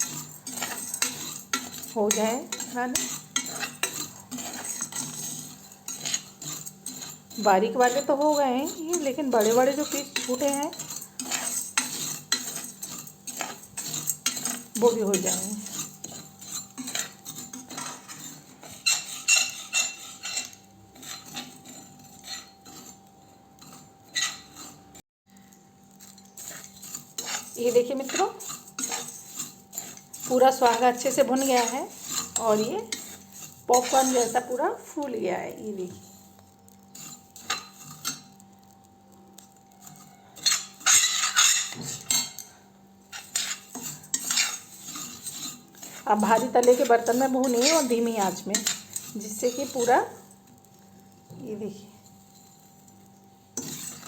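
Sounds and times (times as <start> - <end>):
spoon scraping and clinking pan: 0.0 - 54.0.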